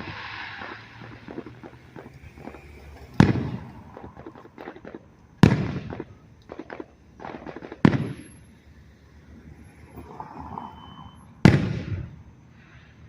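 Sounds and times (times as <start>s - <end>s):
fireworks booming bursts: 0.0s - 10.5s, 11.1s - 13.0s
fireworks crackling pops: 0.0s - 12.8s.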